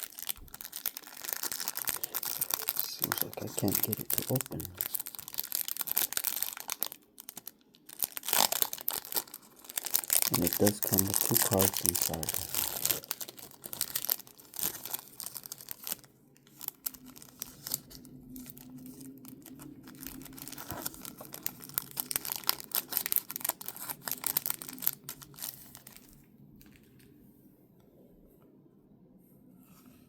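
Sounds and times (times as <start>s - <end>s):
packaging crinkling and rustling: 0.0s - 27.1s.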